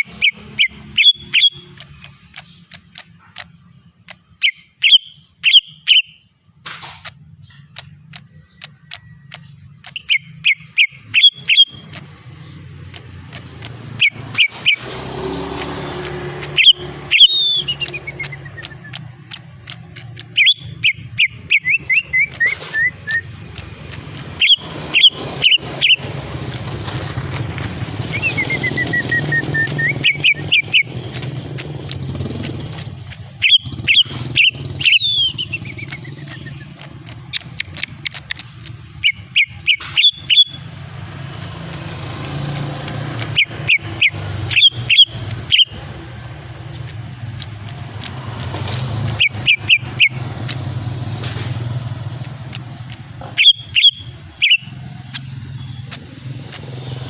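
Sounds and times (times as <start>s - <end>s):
bird whistling song: 0.0s - 6.4s, 7.0s - 57.0s.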